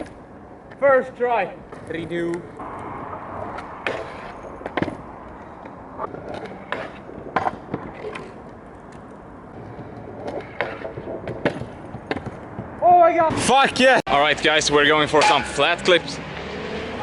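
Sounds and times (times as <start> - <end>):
scooter wheels rolling on pavement: 0.0 - 15.1.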